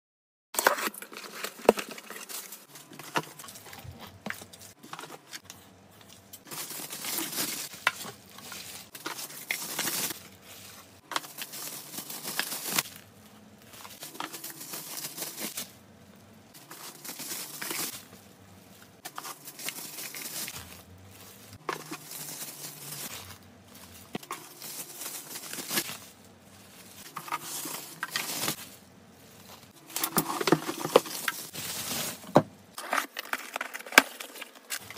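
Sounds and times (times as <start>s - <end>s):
bubble wrap crinkling: 0.6s - 34.9s.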